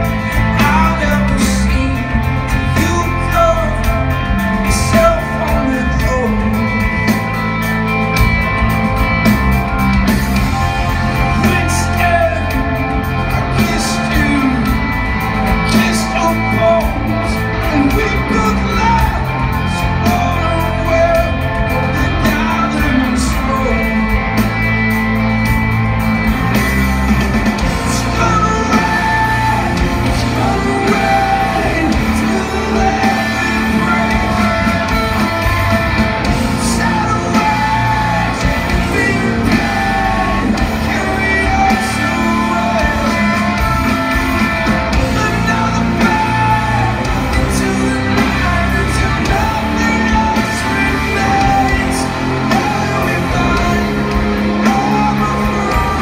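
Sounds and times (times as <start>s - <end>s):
person singing: 0.0s - 7.4s, 10.4s - 24.5s, 27.4s - 56.0s
bass guitar: 0.0s - 56.0s
drums: 0.0s - 56.0s
electric guitars: 0.0s - 56.0s.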